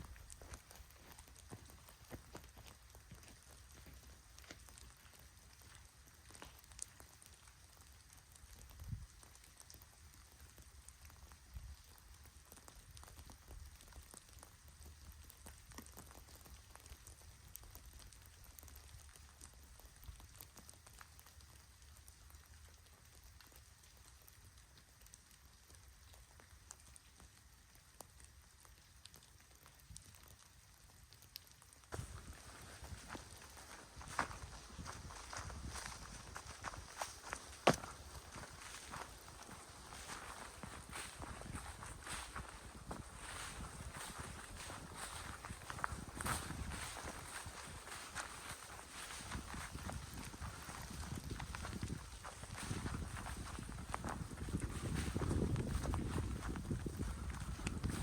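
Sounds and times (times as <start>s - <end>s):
light rain drips: 0.0s - 58.0s.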